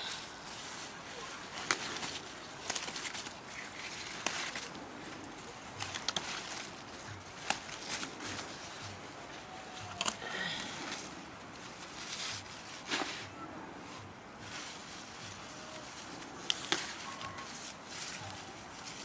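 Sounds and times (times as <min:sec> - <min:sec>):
stems snapping: 0:00.0 - 0:13.2, 0:15.3 - 0:19.0
leaves rustling: 0:00.0 - 0:19.0.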